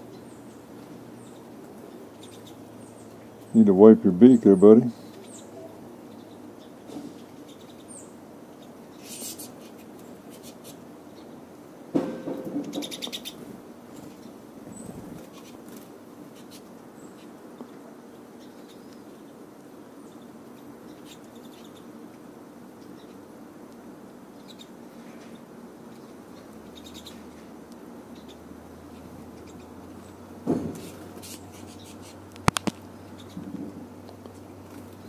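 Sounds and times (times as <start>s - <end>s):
birds chirping: 0.0s - 35.0s
rustle: 0.0s - 35.0s.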